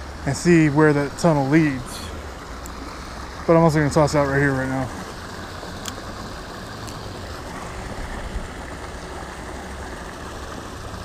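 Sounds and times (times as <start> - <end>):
creek water rushing over concrete: 0.0 - 11.0.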